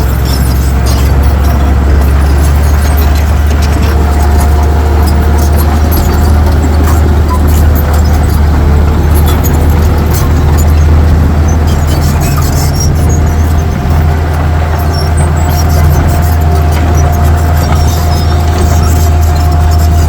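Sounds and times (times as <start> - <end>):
diesel machinery engine drone: 0.0 - 20.0.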